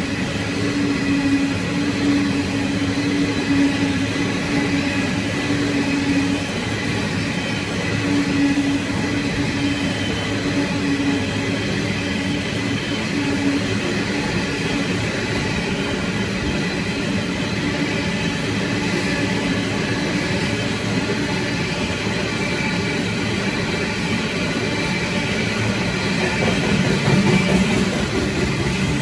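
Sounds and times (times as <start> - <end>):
train wheels rolling on rails: 0.0 - 29.0.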